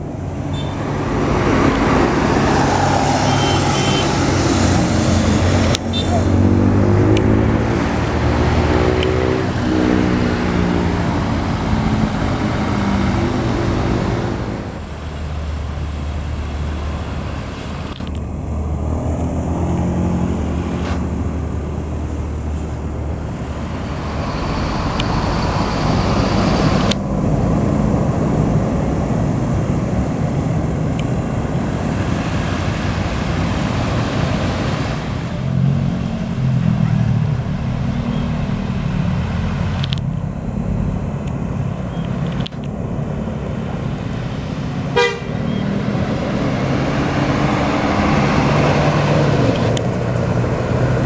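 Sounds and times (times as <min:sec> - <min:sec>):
car engine revving: 0:00.0 - 0:51.0
passing road traffic: 0:00.0 - 0:51.0
tyre and road noise: 0:00.0 - 0:51.0.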